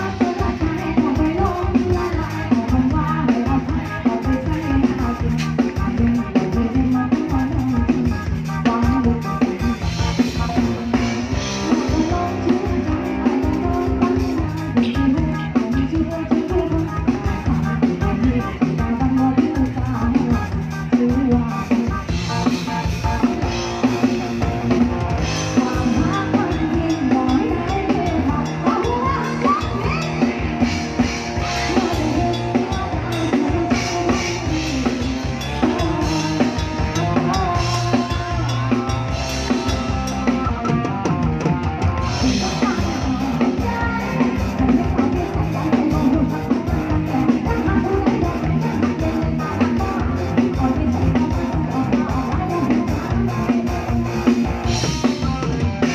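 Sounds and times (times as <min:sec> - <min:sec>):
drum kit beat: 0:00.0 - 0:55.9
live band music: 0:00.0 - 0:55.9.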